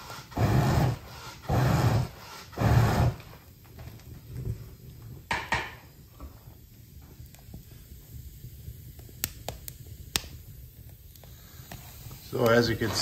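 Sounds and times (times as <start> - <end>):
wood fire crackling: 0.0 - 13.0
sharp pops of fire: 1.6 - 13.0.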